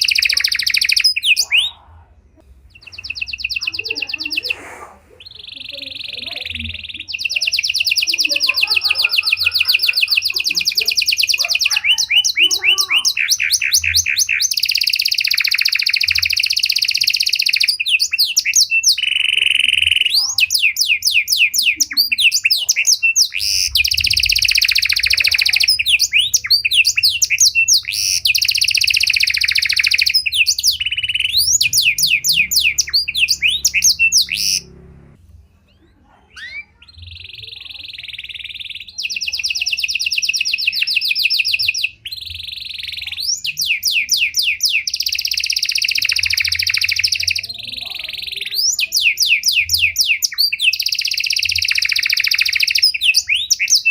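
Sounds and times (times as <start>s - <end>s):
canary singing fast trills: 0.0s - 53.9s.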